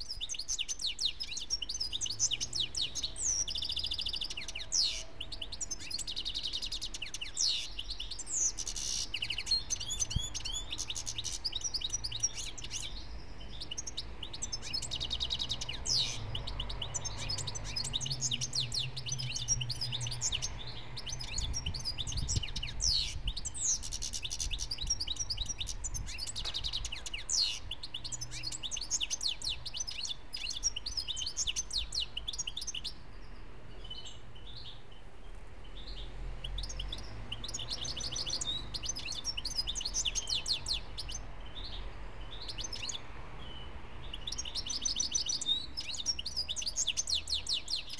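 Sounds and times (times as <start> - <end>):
finch singing twittering chirps: 0.0 - 47.9.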